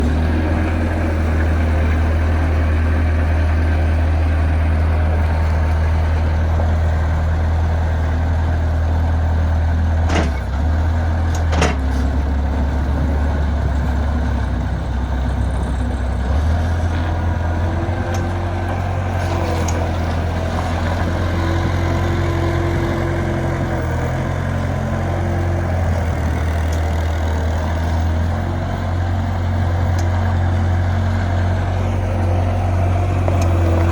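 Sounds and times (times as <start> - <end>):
skid steer engine running: 0.0 - 33.9.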